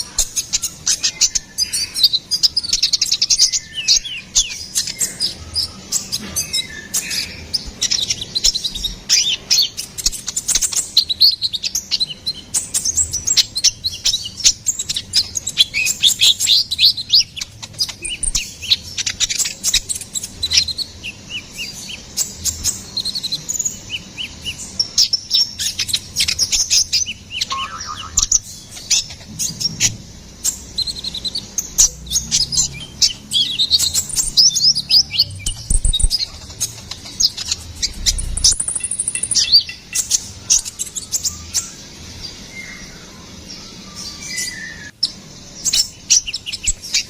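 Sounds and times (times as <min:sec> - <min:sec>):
buzzy bird trill: 0:00.0 - 0:47.0
sunbird chirping: 0:00.0 - 0:47.0.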